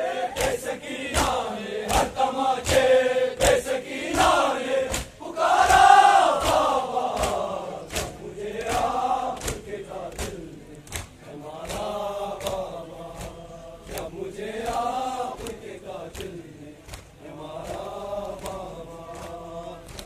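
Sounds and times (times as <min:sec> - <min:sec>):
men chanting in unison: 0:00.0 - 0:20.0
hands slapping chests: 0:00.4 - 0:20.0.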